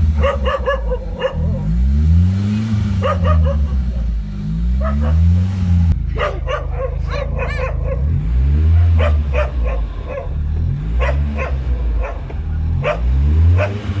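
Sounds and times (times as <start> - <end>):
car engine revving: 0.0 - 14.0
dog barking: 0.1 - 1.7, 3.0 - 4.1, 4.8 - 5.4, 6.1 - 14.0.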